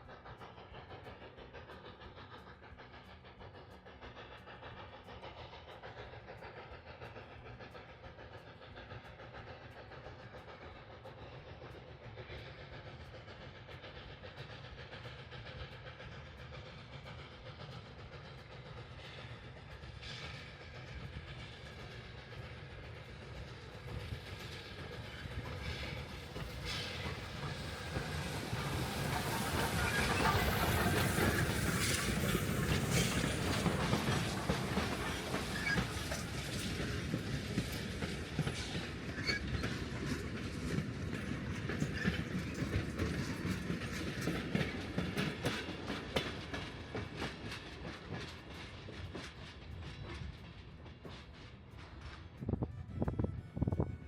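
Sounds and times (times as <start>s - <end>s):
wheels clicking over rail joints: 0.0s - 52.5s
steam train running: 0.0s - 54.0s.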